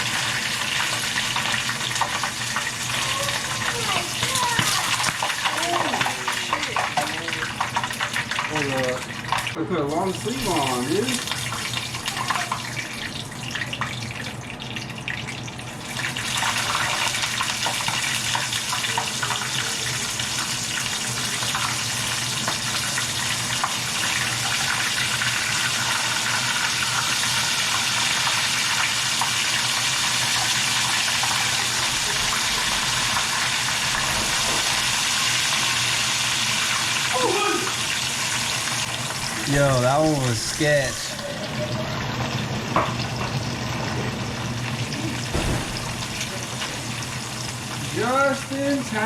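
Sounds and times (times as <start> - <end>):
fish frying in hot oil: 0.0 - 49.0.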